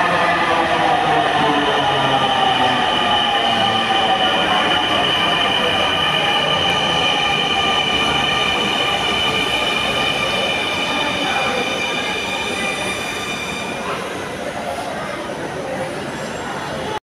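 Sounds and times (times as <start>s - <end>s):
metro train whine and hiss: 0.0s - 17.0s.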